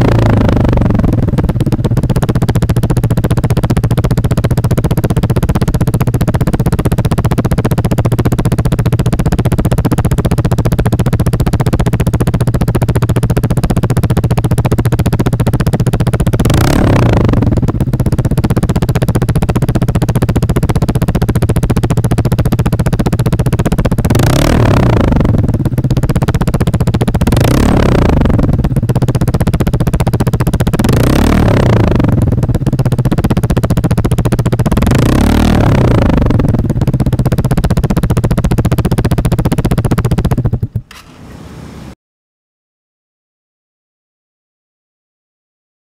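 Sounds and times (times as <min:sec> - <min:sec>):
scooter engine idling and revving: 0:00.0 - 0:42.0.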